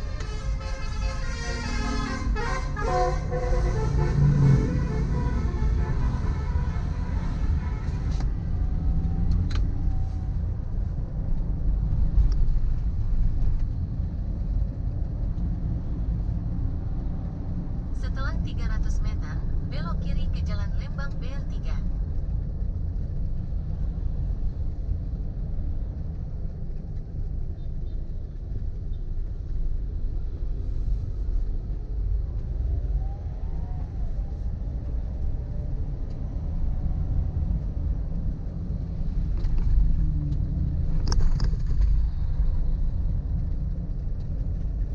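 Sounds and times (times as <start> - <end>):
vehicle rumbling on road: 0.0 - 44.9.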